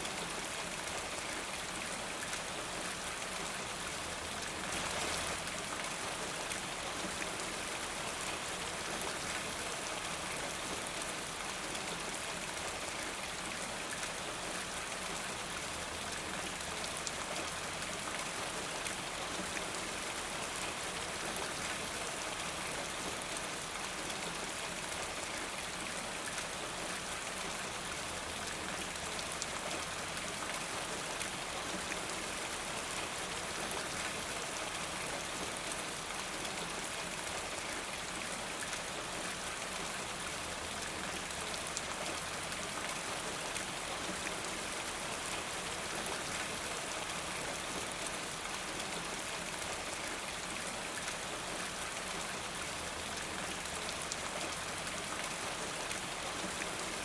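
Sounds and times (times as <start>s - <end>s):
steady rain pattering: 0.0s - 57.0s.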